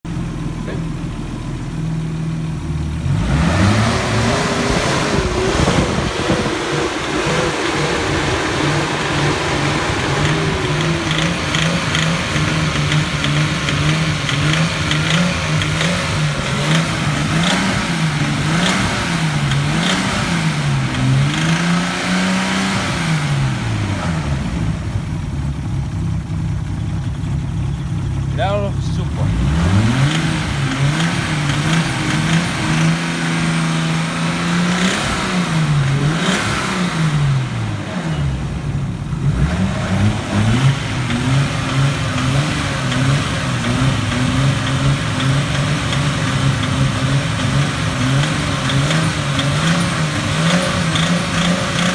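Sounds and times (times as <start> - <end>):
car engine revving: 0.2 - 51.9
engine knocking: 3.8 - 22.3, 24.6 - 36.4, 40.3 - 51.9.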